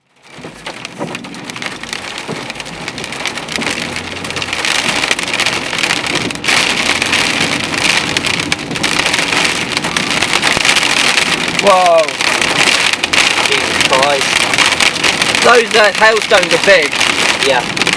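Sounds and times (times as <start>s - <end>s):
hailstones clattering: 0.1s - 17.9s.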